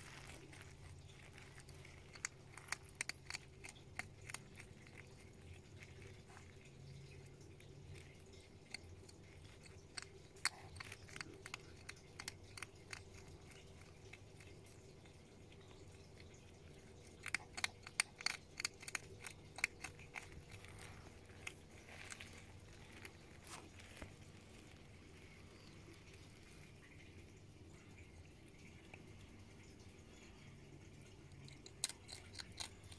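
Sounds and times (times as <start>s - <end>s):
hedgehog crunching food pellets: 0.0s - 32.9s.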